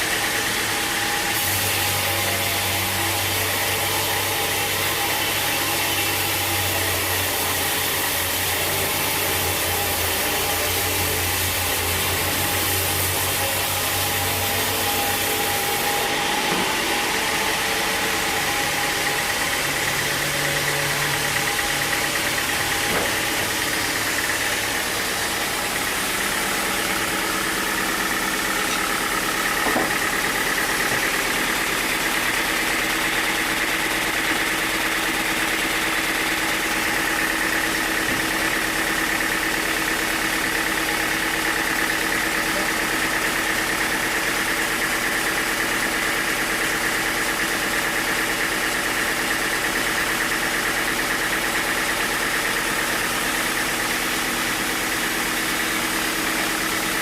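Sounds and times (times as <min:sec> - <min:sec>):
high machine whine: 0:00.0 - 0:46.8
sawmill engine running: 0:00.0 - 0:57.0.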